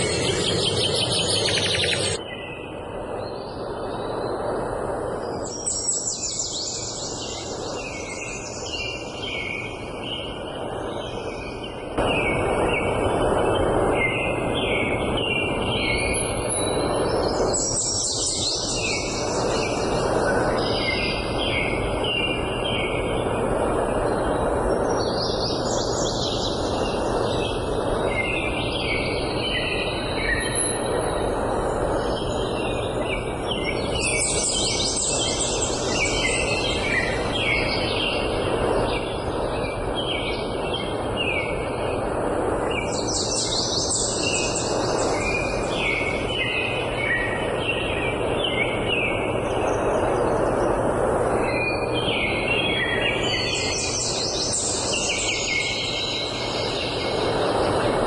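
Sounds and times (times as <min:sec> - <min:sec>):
songbirds singing: 0:00.0 - 0:04.5, 0:05.2 - 0:50.8, 0:51.4 - 0:58.0
steady background noise: 0:00.0 - 0:58.0.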